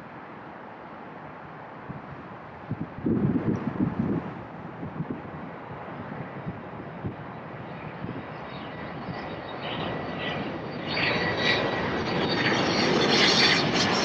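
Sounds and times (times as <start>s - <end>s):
high jet engine whine: 0.0s - 14.0s
jet engines rumbling: 2.4s - 14.0s.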